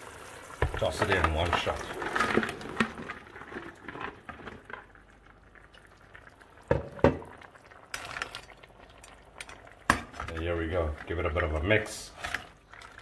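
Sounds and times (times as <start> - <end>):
curry sauce simmering and bubbling: 0.0 - 13.0.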